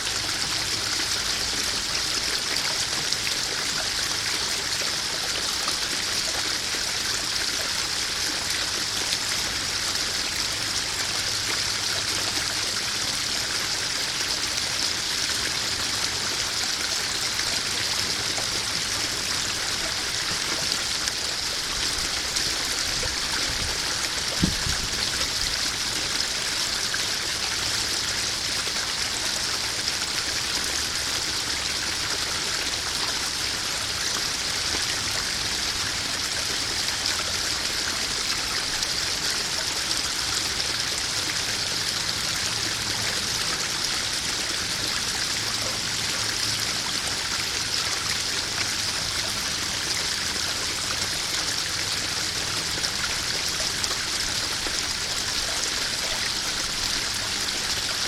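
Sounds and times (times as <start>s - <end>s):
waterfall splashing into pond: 0.0s - 58.0s.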